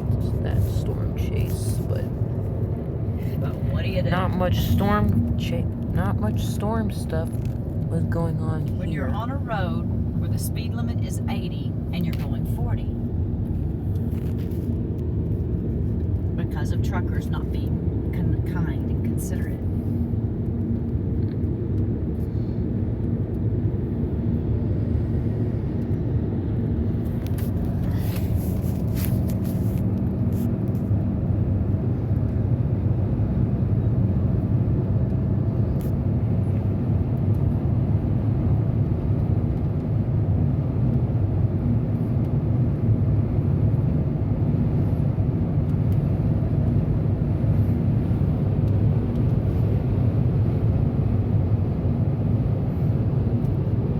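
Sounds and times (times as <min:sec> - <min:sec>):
car cabin road noise: 0:00.0 - 0:53.9.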